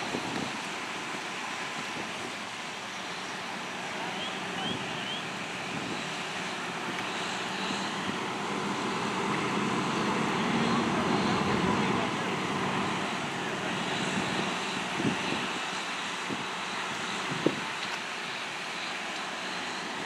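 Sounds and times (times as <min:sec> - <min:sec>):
engine-like rumble with hum: 0:00.0 - 0:20.0
outdoor noise: 0:00.0 - 0:20.0.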